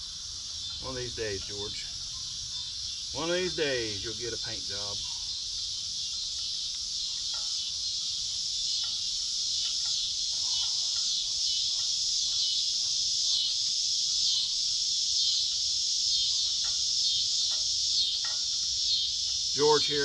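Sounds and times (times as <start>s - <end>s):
crickets trilling: 0.0s - 20.0s
faint ticks: 0.0s - 20.0s.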